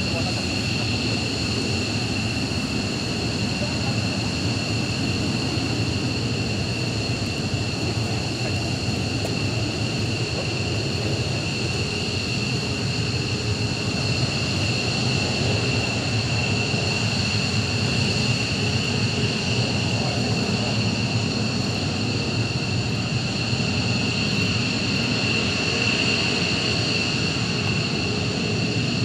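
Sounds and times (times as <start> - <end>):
jet engine rumble: 0.0 - 29.0
jet engine whine: 0.0 - 29.0.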